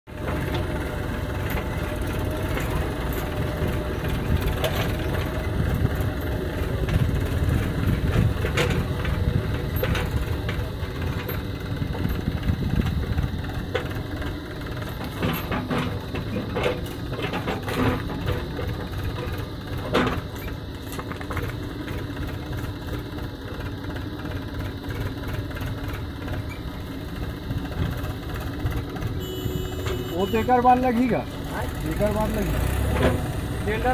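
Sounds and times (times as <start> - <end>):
diesel engines running: 0.1 - 33.9.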